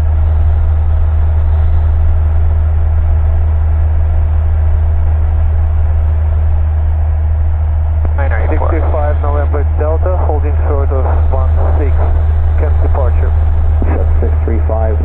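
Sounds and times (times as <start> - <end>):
airplane engine droning in flight: 0.0 - 15.0.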